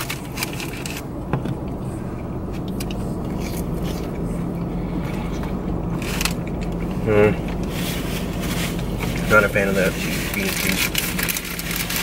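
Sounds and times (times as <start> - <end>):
car idling inside cabin: 0.0 - 12.0.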